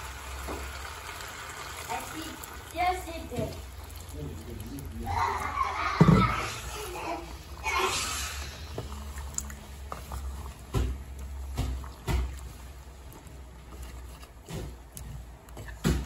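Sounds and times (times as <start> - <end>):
liquid sloshing: 0.6 - 16.0.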